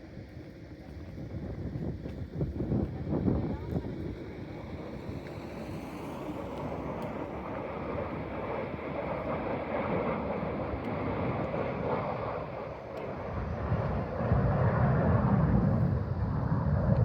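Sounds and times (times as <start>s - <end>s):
distant airplane engine drone: 0.0s - 17.0s
wind rumbling on microphone: 0.0s - 17.0s.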